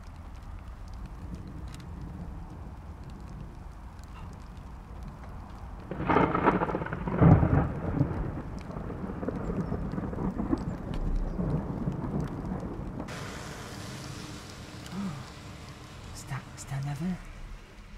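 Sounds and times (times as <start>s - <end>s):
thunder clap: 0.0s - 16.4s
rain falling: 0.0s - 17.9s.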